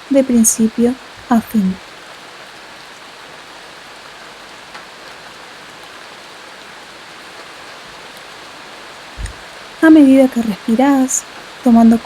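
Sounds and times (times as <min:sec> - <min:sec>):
steady rainfall: 0:00.0 - 0:12.0.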